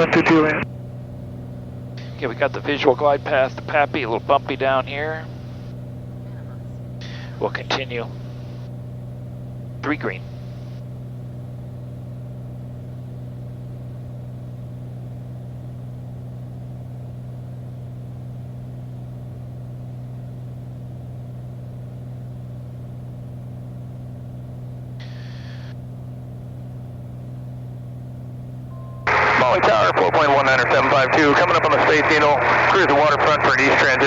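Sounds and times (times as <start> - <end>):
propeller aircraft engine drone: 0.0 - 34.0.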